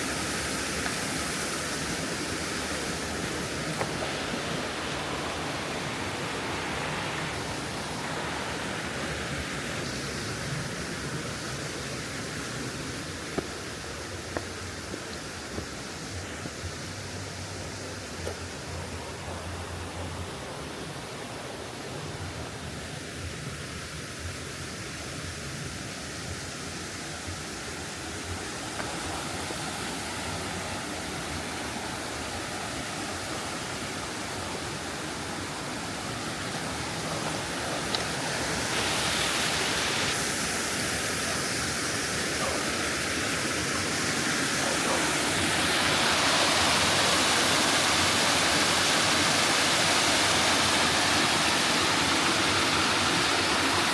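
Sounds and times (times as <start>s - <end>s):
flowing stream water: 0.0s - 53.9s.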